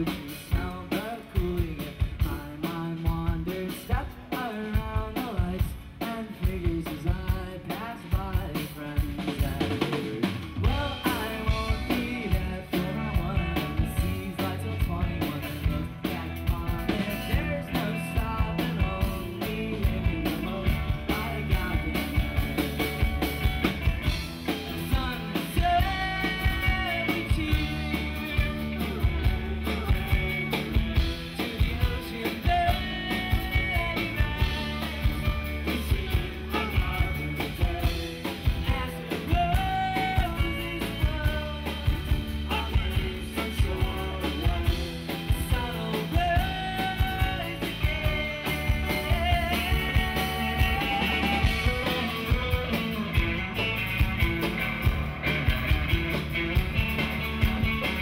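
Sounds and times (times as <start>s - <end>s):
drum kit: 0.0s - 58.0s
electric bass: 0.0s - 58.0s
guitars: 0.0s - 58.0s
keyboard: 0.0s - 58.0s.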